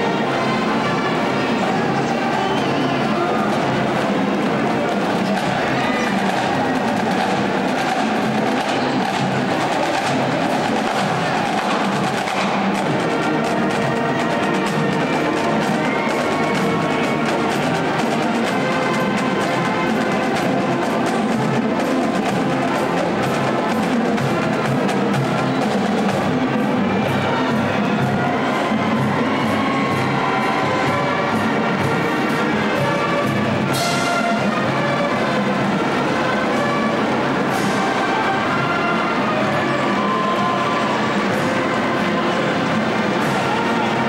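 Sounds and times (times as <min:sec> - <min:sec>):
marching band playing: 0:00.0 - 0:44.0
brass playing tune: 0:03.0 - 0:44.0
drum strokes: 0:03.2 - 0:44.0.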